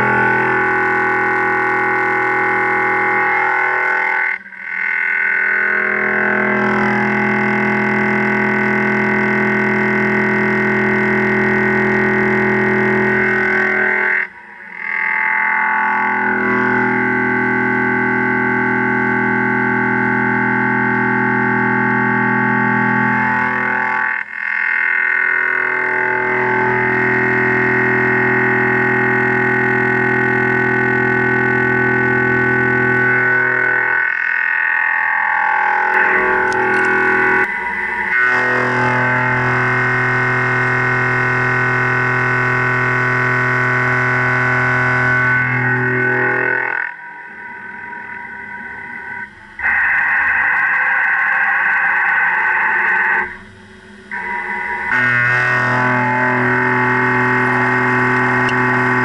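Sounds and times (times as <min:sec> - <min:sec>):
milling cutter buzzing whine: 0:00.0 - 0:59.0.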